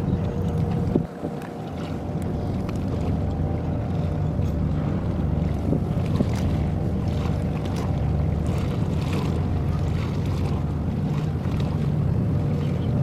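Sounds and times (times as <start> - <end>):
boat engines droning: 0.0 - 13.0
wind on microphone: 0.0 - 13.0.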